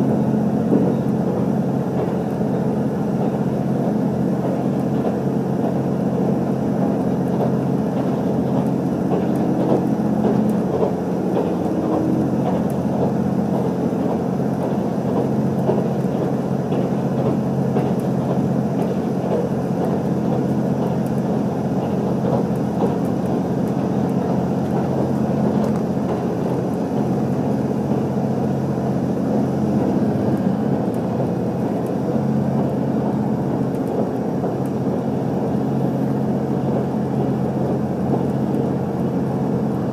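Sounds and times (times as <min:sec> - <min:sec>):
diesel engine drone: 0:00.0 - 0:39.9
wheel-on-rail rumble: 0:00.0 - 0:39.9.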